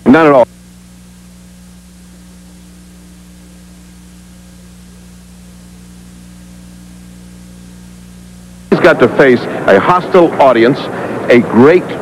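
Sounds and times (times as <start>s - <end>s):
electrical hum: 0.0s - 12.0s
tape hiss: 0.0s - 12.0s.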